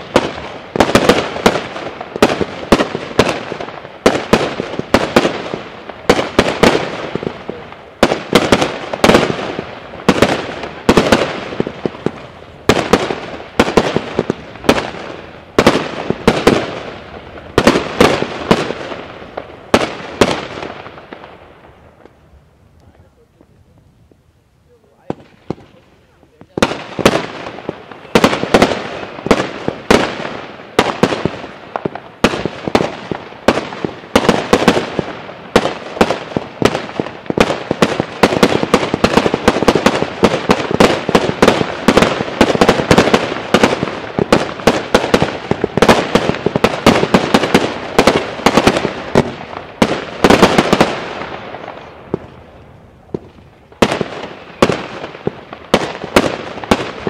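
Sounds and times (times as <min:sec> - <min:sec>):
fireworks firing rapid bangs: 0:00.0 - 0:22.2, 0:25.0 - 0:57.0.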